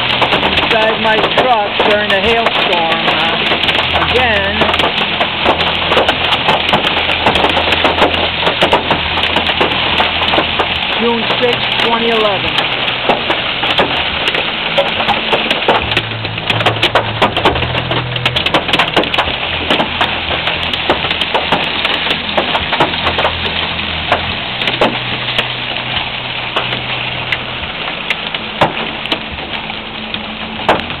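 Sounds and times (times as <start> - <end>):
hailstones clicking on truck: 0.0 - 31.0
heavy hail falling: 0.0 - 31.0.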